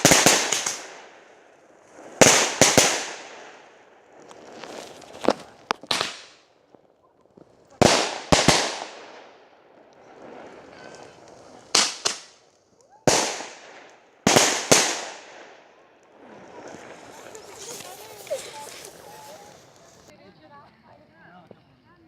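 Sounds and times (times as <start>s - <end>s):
fireworks bangs: 0.0s - 20.1s.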